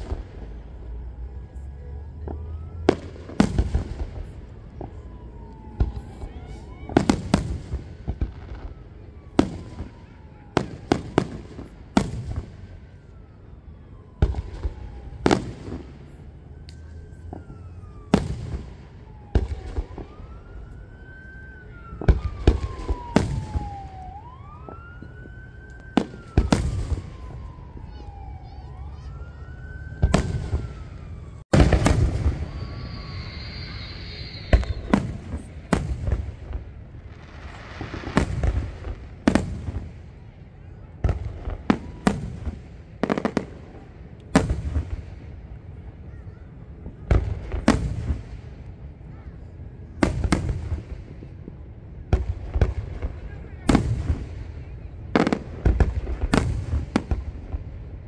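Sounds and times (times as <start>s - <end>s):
emergency siren wailing: 0.0s - 52.1s.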